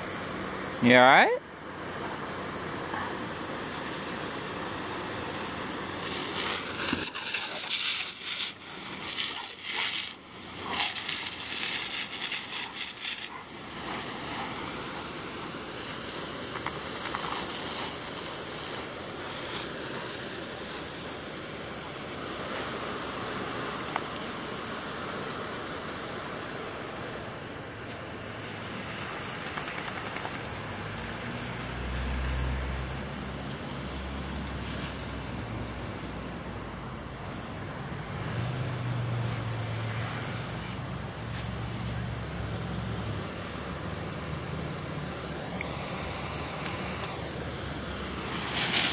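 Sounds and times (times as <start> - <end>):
garden hose spraying water: 0.0 - 25.6, 27.8 - 48.9.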